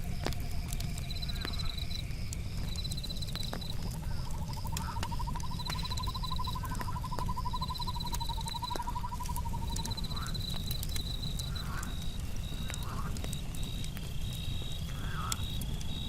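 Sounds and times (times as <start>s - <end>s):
campfire crackling: 0.0s - 16.0s
crickets trilling: 0.0s - 16.0s.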